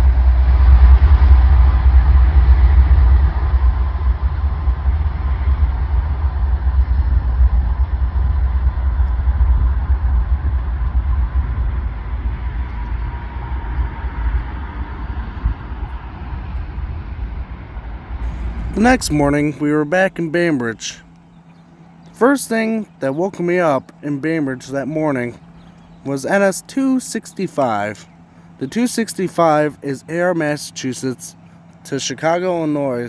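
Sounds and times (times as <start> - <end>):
train rumbling past: 0.0 - 26.7
faint steady whine: 0.0 - 33.0.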